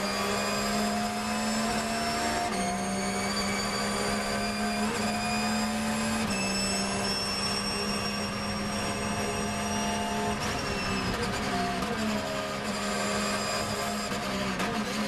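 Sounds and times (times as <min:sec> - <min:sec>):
race car engine at full throttle: 0:00.0 - 0:15.0.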